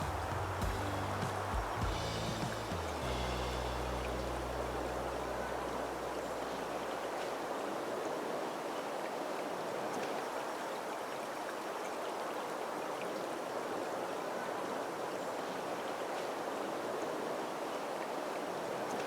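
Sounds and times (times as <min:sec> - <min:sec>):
creek running water: 0:00.0 - 0:19.0.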